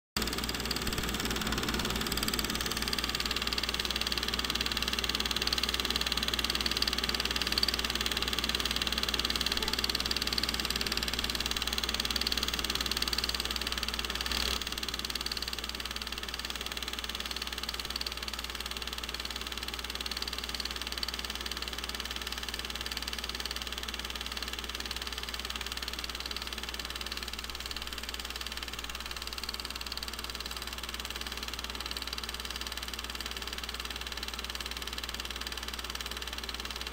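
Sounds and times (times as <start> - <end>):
film projector running: 0.2 - 36.9.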